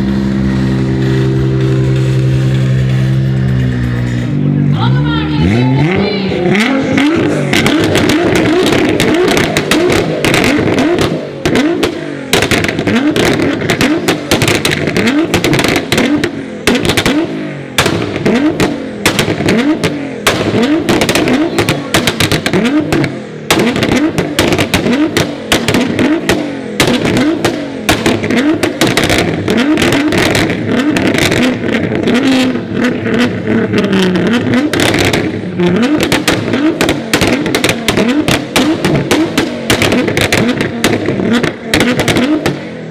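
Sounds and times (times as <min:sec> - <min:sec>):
car engine revving: 0:00.0 - 0:42.9
exhaust pops and bangs: 0:06.6 - 0:42.9.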